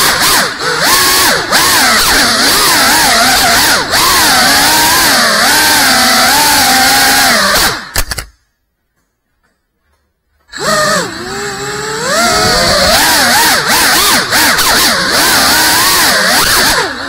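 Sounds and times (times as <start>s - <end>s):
drone motors whining: 0.0s - 7.9s, 10.5s - 17.0s.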